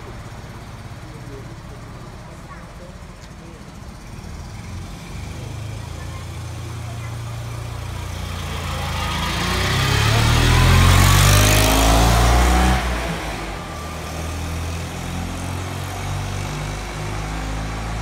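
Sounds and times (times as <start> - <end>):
small car engine accelerating: 0.0 - 18.0.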